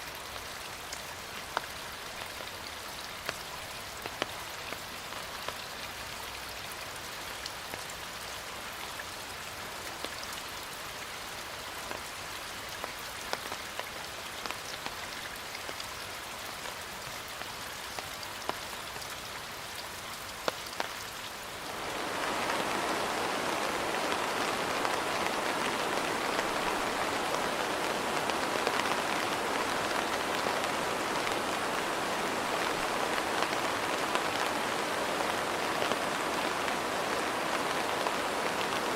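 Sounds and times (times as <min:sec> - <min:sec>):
rain falling: 0:00.0 - 0:38.9
raindrops ticking on surface: 0:00.0 - 0:38.9.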